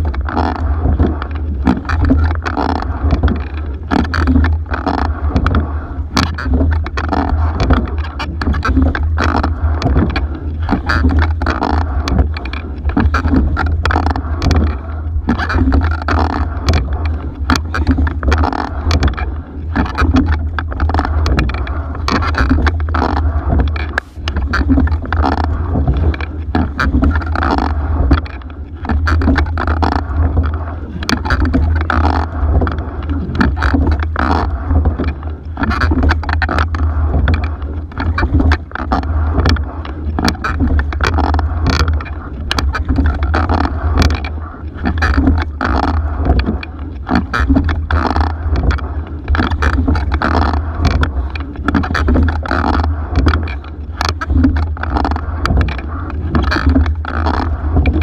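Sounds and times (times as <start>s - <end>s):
oar blades working water: 0.0s - 58.0s
oars clicking in oarlocks: 0.0s - 58.0s
steady low rumble: 0.0s - 58.0s
water rushing along hull: 0.0s - 58.0s.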